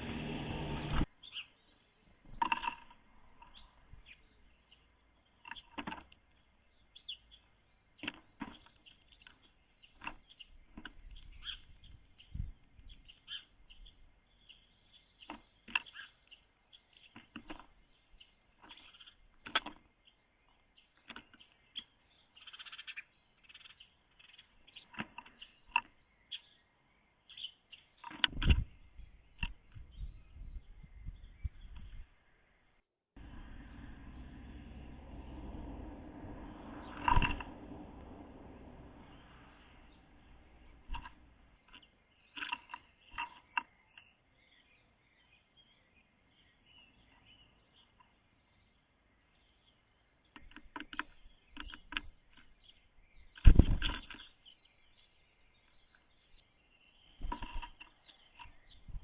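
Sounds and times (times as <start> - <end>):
bird chirps: 0.8 - 59.0
birds tapping on birdhouse: 2.1 - 26.6, 27.3 - 32.1, 33.2 - 45.2, 49.3 - 59.0.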